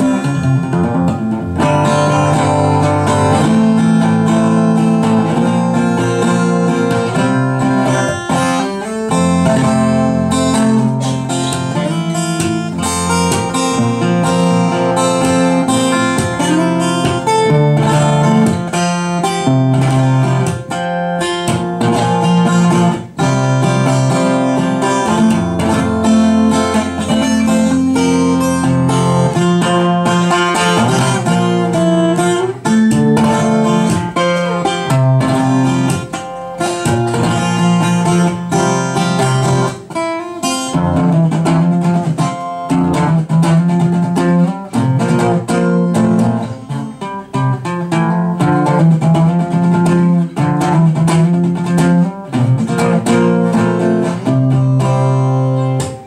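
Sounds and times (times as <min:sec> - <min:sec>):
acoustic guitar picked melody: 0:00.0 - 0:56.0.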